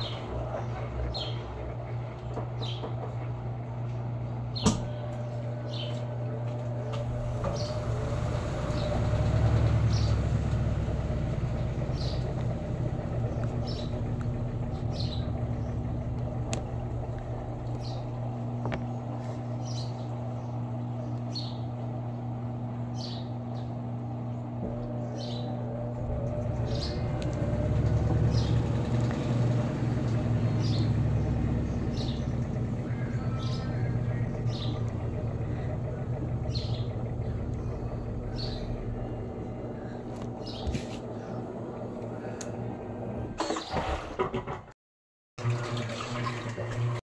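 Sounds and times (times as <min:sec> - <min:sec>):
washing machine motor hum: 0:00.0 - 0:44.7, 0:45.4 - 0:47.0.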